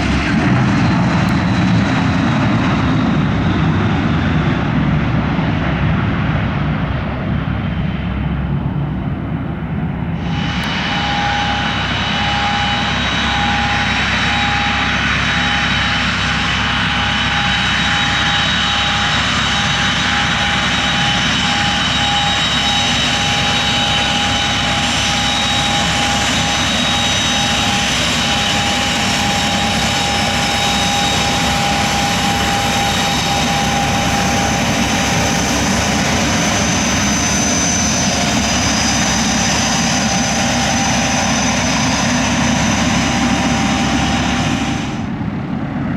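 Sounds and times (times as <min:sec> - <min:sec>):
aircraft turbine engines running: 0:00.0 - 0:45.9.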